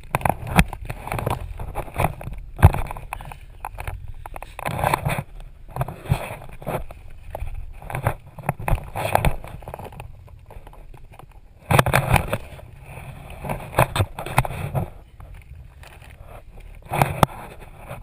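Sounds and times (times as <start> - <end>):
rustling on plastic sheeting: 0.0 - 18.0.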